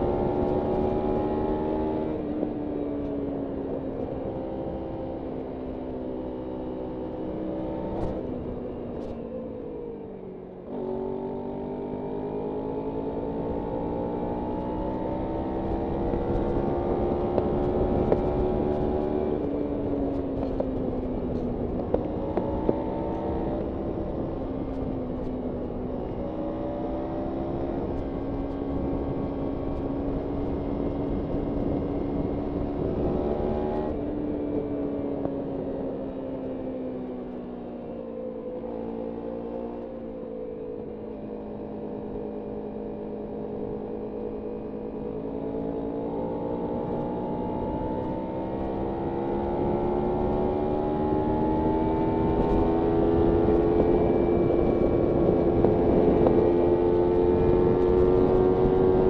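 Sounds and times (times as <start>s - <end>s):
road and wind noise: 0.0s - 59.0s
motorcycle engine revving: 10.7s - 37.0s, 37.9s - 59.0s.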